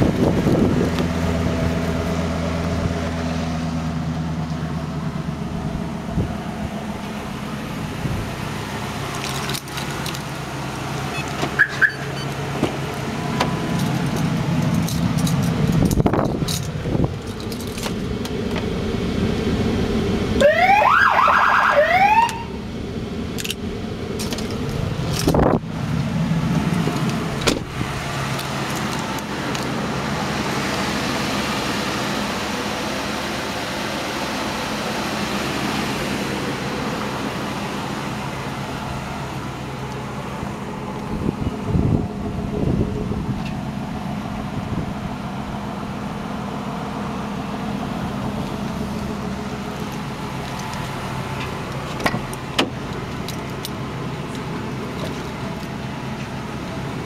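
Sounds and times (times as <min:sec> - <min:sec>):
suv engine idling: 0:00.0 - 0:57.0.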